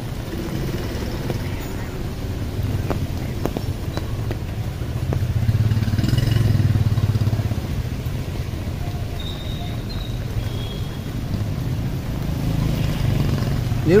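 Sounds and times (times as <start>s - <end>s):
low street rumble: 0.0s - 14.0s
motorbike passing: 0.0s - 14.0s.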